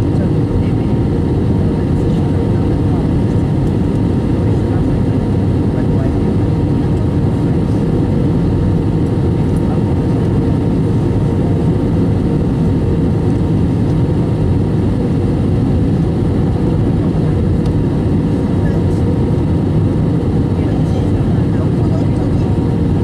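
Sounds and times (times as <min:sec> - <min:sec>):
airliner cabin engine roar: 0:00.0 - 0:23.0.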